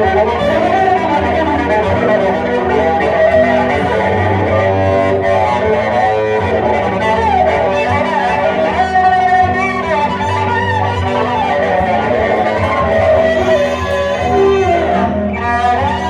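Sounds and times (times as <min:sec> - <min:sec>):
bowed cello melody: 0:00.0 - 0:16.0
strummed guitar: 0:00.0 - 0:16.0.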